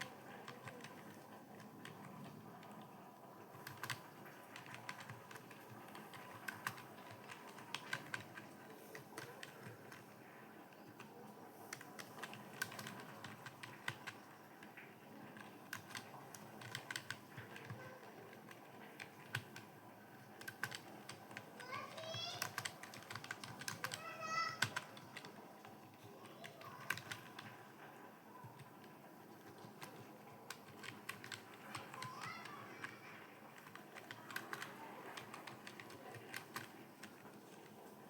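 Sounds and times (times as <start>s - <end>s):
computer keyboard typing: 0.0s - 38.0s.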